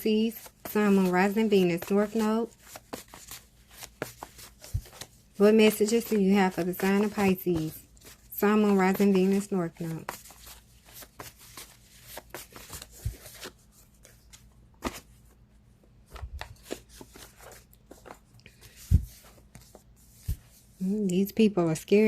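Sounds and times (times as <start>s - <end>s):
cards being shuffled: 0.0s - 15.3s, 16.1s - 20.7s.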